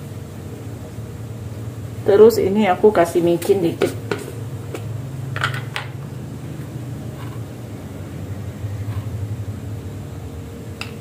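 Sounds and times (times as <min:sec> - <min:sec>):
gas stove burner rumble: 0:00.0 - 0:11.0.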